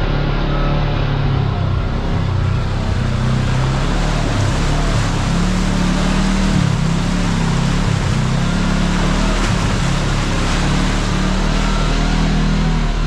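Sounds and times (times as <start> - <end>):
engine running: 0.0 - 13.0
wind and tyre noise: 0.0 - 13.0.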